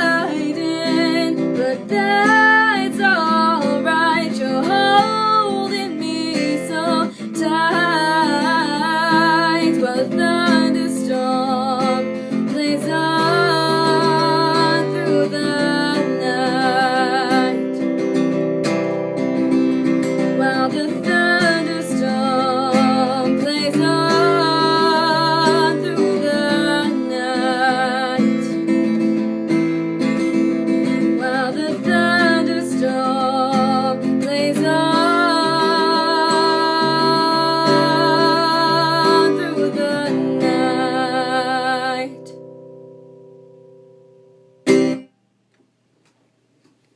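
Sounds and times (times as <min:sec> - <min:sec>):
woman singing: 0:00.0 - 0:18.1, 0:19.8 - 0:29.2, 0:30.1 - 0:42.4
acoustic guitar strumming: 0:00.0 - 0:45.2.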